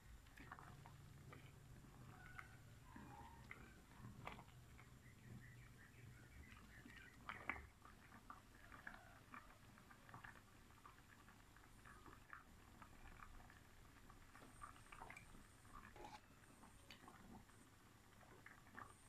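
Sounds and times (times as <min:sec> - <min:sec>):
porridge bubbling in a pot: 0:00.0 - 0:19.0.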